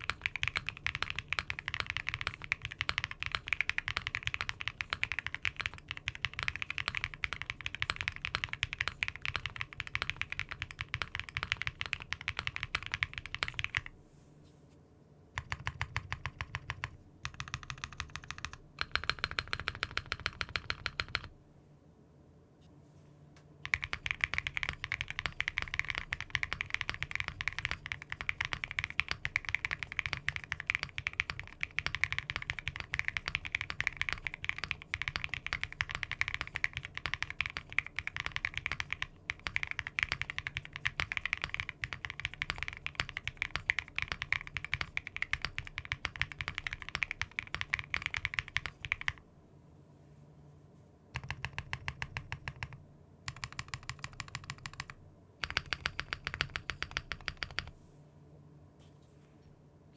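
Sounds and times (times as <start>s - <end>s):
mechanical keyboard typing: 0.0s - 13.9s, 15.4s - 21.3s, 23.6s - 49.2s, 51.2s - 57.7s.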